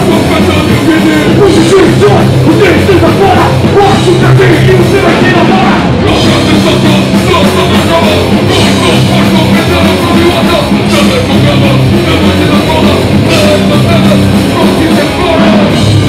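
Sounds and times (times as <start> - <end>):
bass guitar: 0.0 - 16.0
drum kit: 0.0 - 16.0
electric guitar: 0.0 - 16.0.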